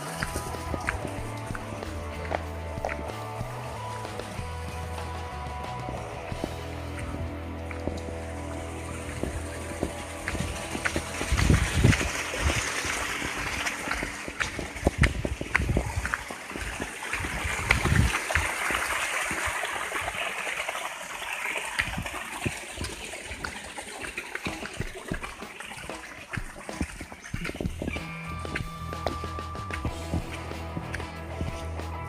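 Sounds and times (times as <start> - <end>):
low thumps: 0.0 - 18.8, 24.4 - 32.0
running water trickling: 0.0 - 32.0.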